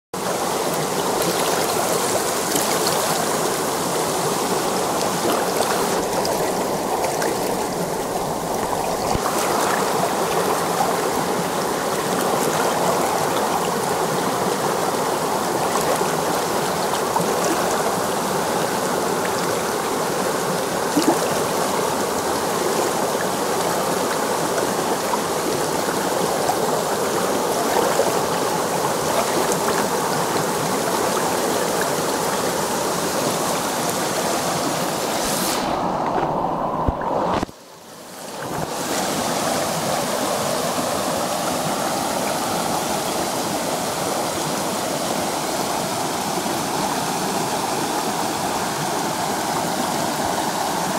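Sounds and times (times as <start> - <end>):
stream babbling over stones: 0.2 - 50.9.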